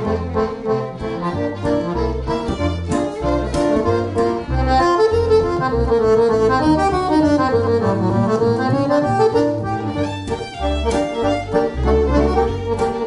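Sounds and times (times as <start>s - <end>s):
accordion melody: 0.0s - 13.0s
double bass notes: 0.0s - 13.0s.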